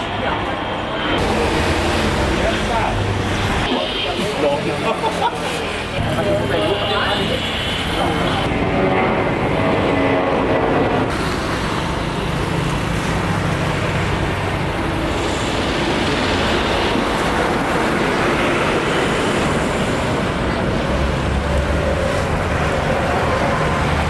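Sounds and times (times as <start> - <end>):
vehicle rumble: 1.1 - 24.0.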